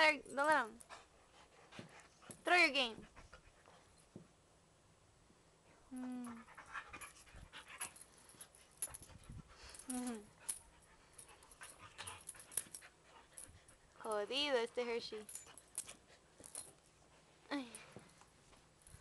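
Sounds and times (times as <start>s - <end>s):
dogs scuffling and panting: 0.4s - 4.3s, 6.4s - 19.0s.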